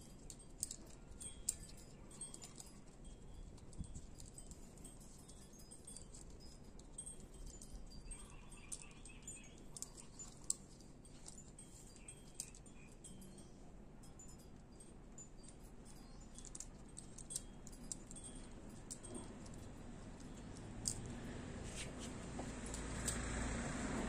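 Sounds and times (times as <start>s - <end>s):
small metallic clicks and clinks: 0.0s - 24.0s.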